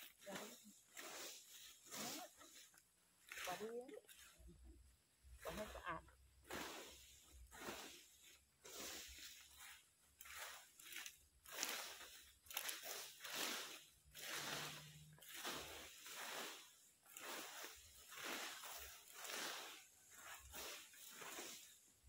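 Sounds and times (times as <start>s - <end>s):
brooms sweeping dry leaves: 0.0s - 22.0s.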